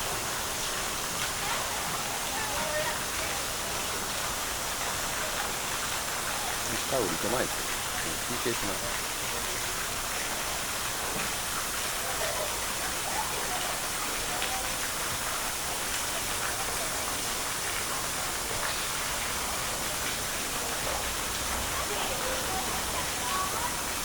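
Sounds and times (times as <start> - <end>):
faint distant voices: 0.0 - 24.0
rain falling: 0.0 - 24.0.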